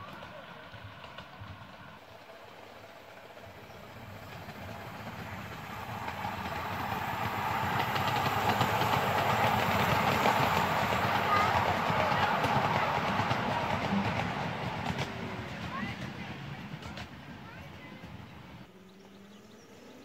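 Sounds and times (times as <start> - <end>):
miniature railway train running: 0.0 - 18.7.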